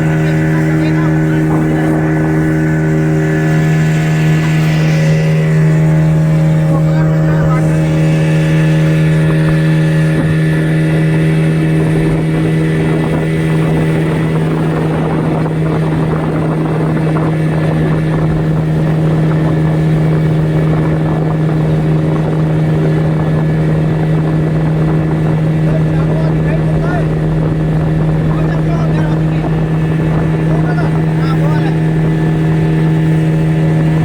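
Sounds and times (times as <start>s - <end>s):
rushing water: 0.0s - 34.0s
speedboat engine droning: 0.0s - 34.0s.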